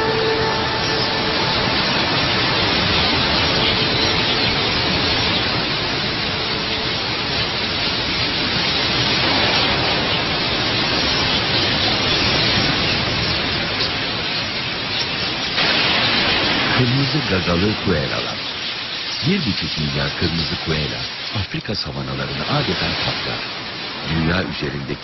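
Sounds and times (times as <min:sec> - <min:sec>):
flock of birds in flight: 0:00.0 - 0:25.0.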